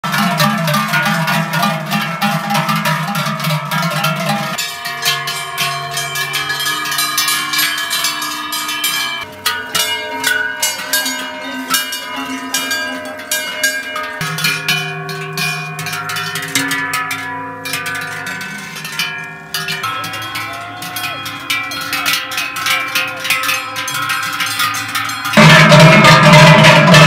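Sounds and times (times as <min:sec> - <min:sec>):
cowbells clanging: 0:00.0 - 0:27.0.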